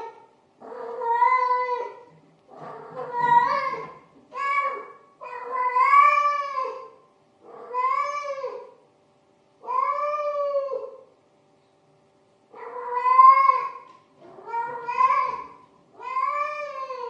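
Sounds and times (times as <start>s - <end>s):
cat meowing: 0.0s - 6.9s, 7.5s - 8.7s, 9.6s - 11.0s, 12.6s - 17.0s.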